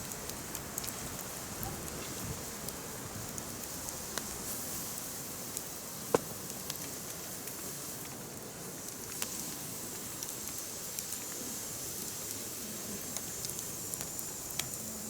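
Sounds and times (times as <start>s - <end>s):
firewood hissing and crackling: 0.0s - 15.0s
wood fire popping: 0.0s - 15.0s.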